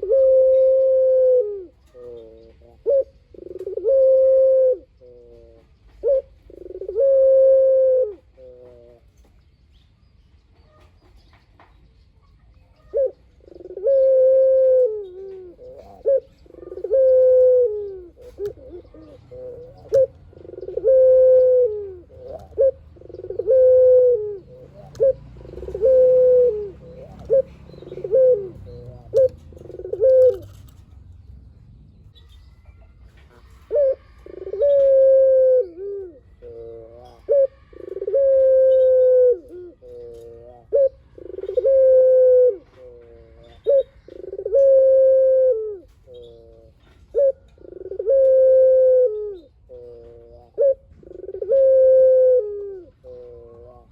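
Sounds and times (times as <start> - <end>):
dove cooing: 0.0 - 9.3, 12.7 - 31.1, 32.1 - 53.9.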